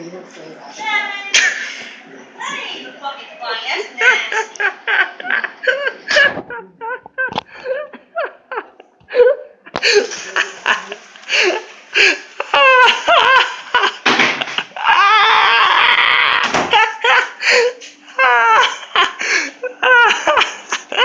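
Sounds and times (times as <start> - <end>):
person laughing: 4.0 - 21.0.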